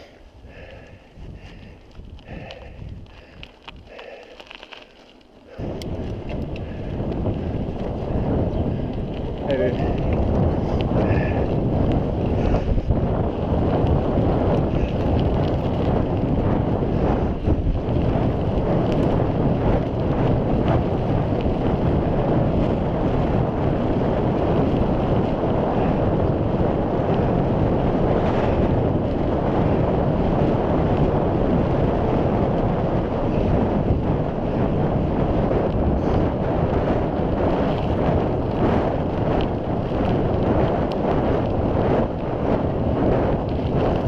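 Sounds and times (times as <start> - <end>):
tyres rolling on road: 0.0 - 44.0
wind buffeting microphone: 0.0 - 44.0.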